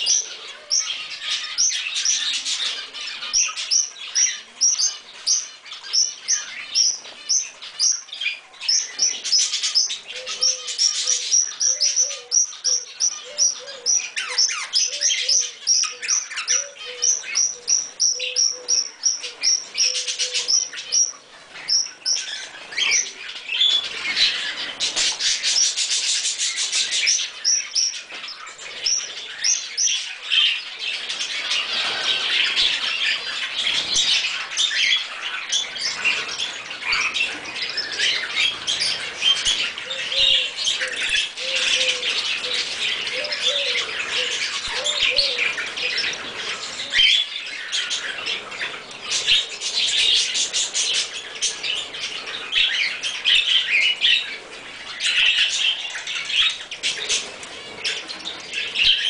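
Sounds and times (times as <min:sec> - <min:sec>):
birds chirping: 0:00.0 - 0:59.0
birds squawking: 0:00.0 - 0:59.0.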